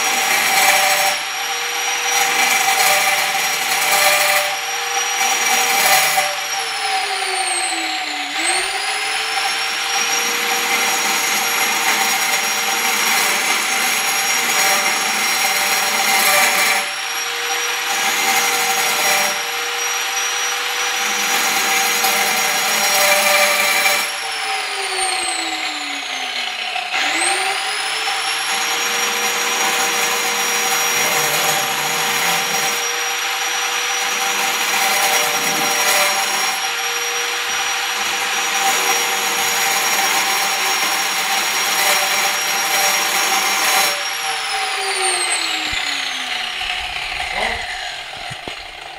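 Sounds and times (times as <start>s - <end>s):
angle grinder whining: 0.0s - 48.9s
grinding rasp: 0.0s - 48.9s.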